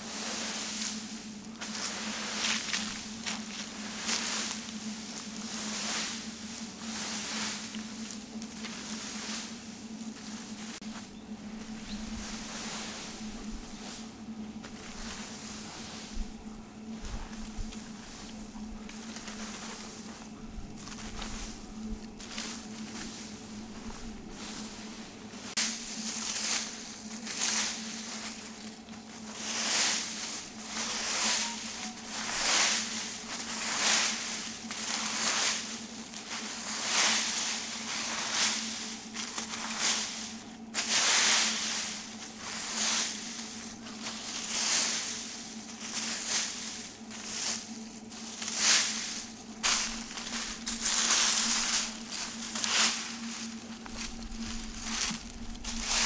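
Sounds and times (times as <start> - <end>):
rake swishing through dry leaves: 0.0 - 56.0.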